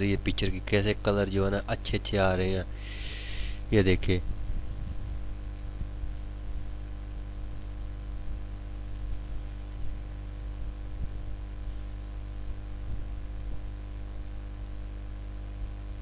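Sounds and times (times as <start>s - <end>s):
electrical mains hum: 0.0s - 16.0s
thin high hiss: 0.0s - 16.0s.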